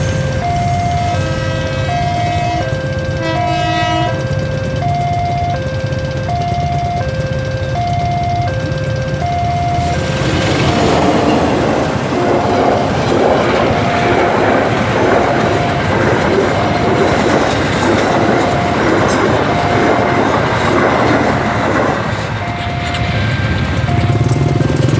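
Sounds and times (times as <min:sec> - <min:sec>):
level-crossing warning tone: 0:00.0 - 0:24.9
train coaches rumbling past: 0:00.0 - 0:24.9
wheels clattering over rail joints: 0:00.0 - 0:24.9.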